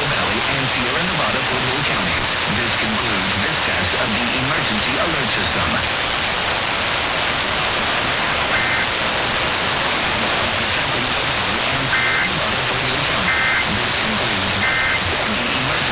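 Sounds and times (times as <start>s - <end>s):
radio static hiss: 0.0s - 15.9s.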